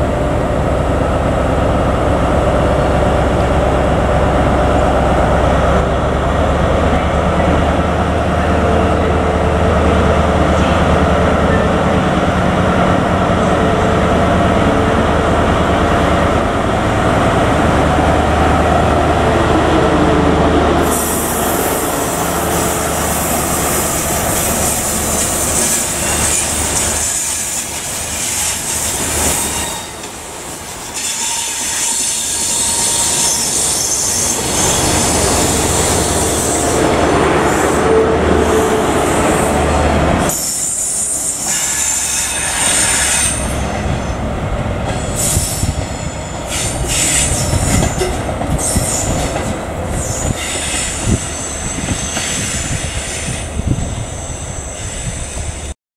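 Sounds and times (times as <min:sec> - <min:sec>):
diesel train engine rumbling: 0:00.0 - 0:55.8.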